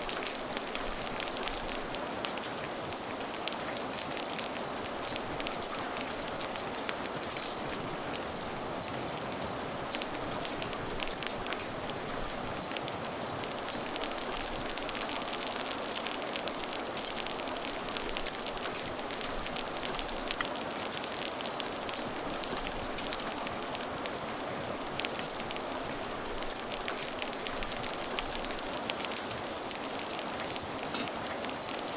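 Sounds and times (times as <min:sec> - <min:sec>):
fire crackling and popping: 0:00.0 - 0:31.9
steady rain hiss: 0:00.0 - 0:31.9.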